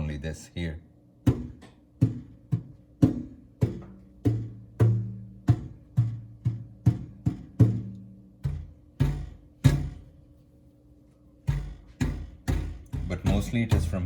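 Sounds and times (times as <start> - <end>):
hand knocking on metal panels: 1.3 - 10.1, 11.5 - 14.0.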